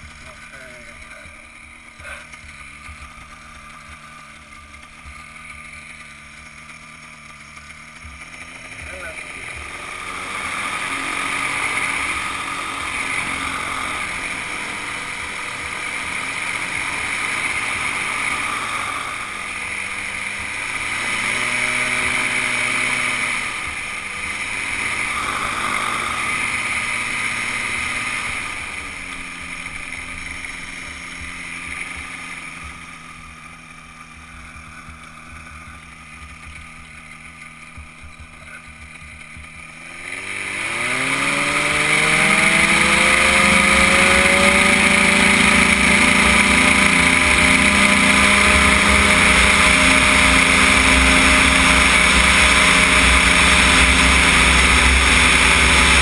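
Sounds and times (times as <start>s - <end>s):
microlight engine and propeller: 0.0s - 56.0s.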